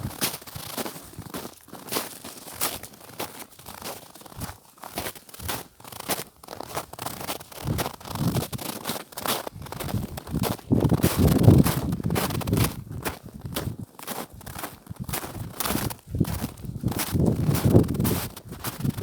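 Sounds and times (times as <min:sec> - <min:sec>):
footsteps crunching on snow: 0:00.0 - 0:19.0.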